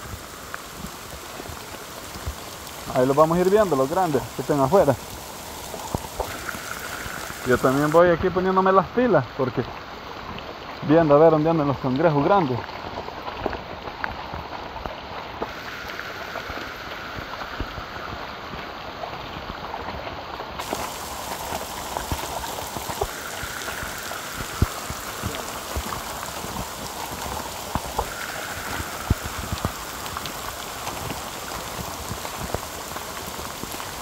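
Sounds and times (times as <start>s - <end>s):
raindrops ticking: 0.0s - 20.0s, 20.6s - 34.0s
rain falling: 0.0s - 34.0s.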